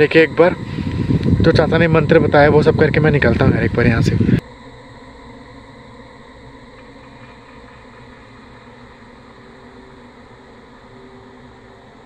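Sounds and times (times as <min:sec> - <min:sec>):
faint steady tones: 0:00.0 - 0:12.0
mechanical hum and hiss: 0:00.0 - 0:12.0.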